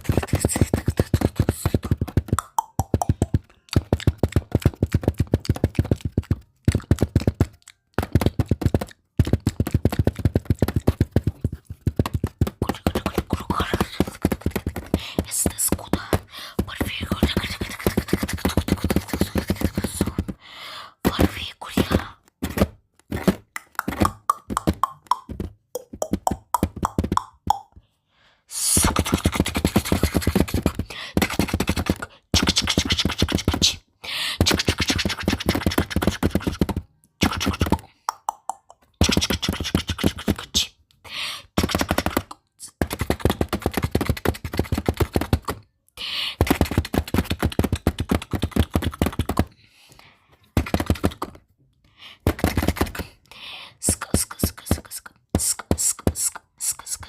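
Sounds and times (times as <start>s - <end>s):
fingers tapping on camera body: 0.0s - 20.4s, 21.0s - 27.8s, 28.8s - 33.8s, 34.4s - 40.7s, 41.6s - 45.7s, 46.4s - 49.5s, 50.6s - 51.4s, 52.2s - 53.2s, 53.8s - 57.0s.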